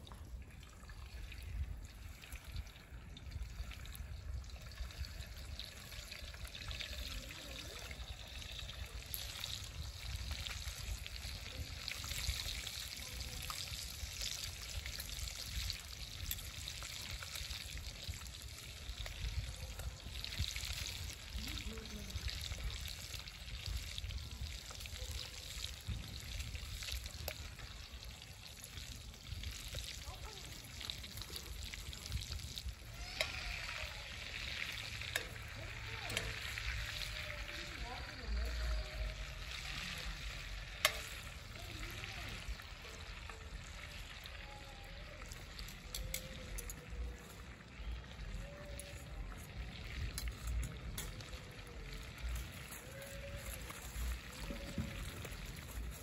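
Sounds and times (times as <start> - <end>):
bacon sizzling and popping: 3.7 - 56.0.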